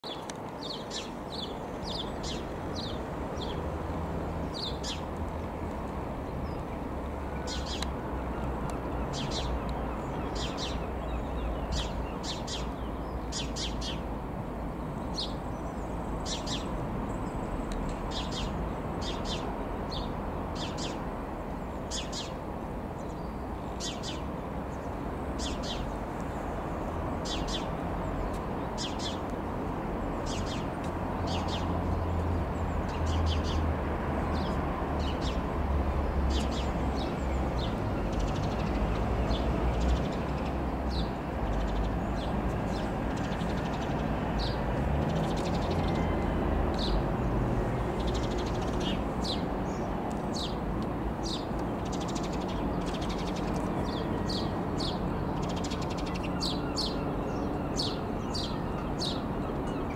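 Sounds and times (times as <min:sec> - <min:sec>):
small birds chirping: 0:00.0 - 0:03.7, 0:04.4 - 0:05.6, 0:08.7 - 0:14.1, 0:15.0 - 0:59.9.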